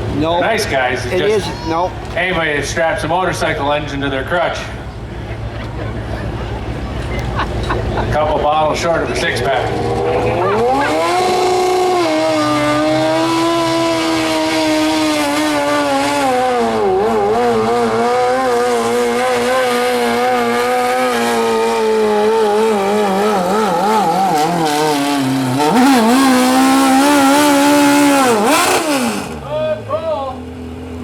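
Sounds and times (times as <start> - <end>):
engine running at high revs: 0.0 - 29.7.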